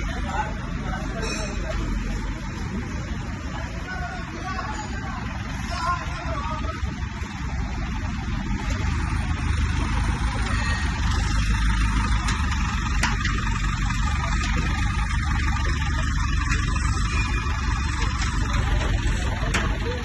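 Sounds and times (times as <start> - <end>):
diesel generator engine running: 0.0 - 20.0.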